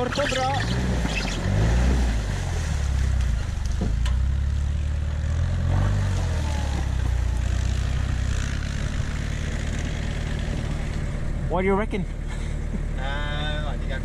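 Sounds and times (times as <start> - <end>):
truck engine at low revs: 0.0 - 14.0.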